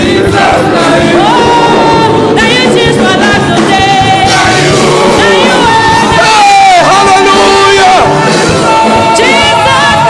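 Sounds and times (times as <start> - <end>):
band playing gospel music: 0.0 - 10.0.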